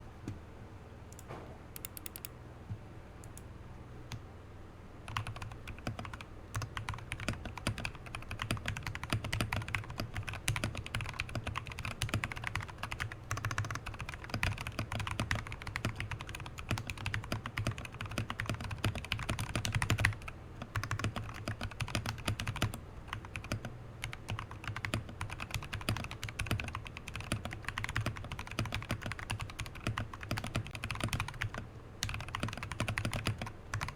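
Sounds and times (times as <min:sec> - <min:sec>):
mechanical keyboard typing: 0:01.8 - 0:02.3, 0:05.1 - 0:33.9.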